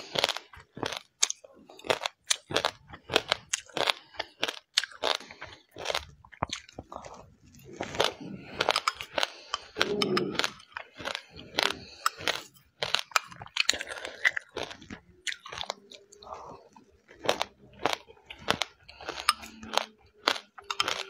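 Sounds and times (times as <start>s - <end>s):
chewing crunchy seeds: 0.0s - 21.0s.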